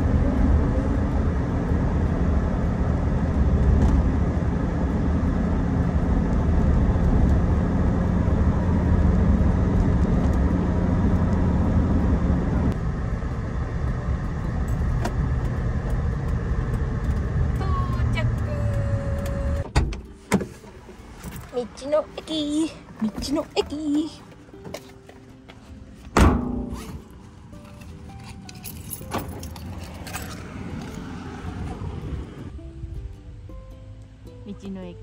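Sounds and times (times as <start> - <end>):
car engine hum: 0.0 - 35.0
road noise inside car: 0.0 - 35.0.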